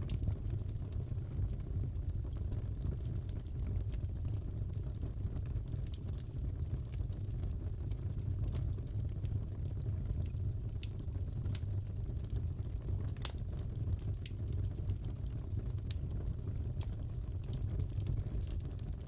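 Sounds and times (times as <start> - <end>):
fire pops and crackles: 0.0 - 19.0
fire rumbling: 0.0 - 19.0.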